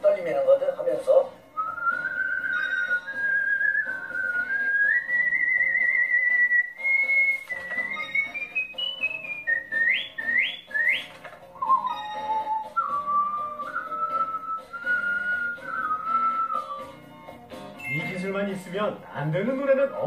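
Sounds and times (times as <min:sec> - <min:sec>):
man whistling a melody: 0:01.6 - 0:18.2.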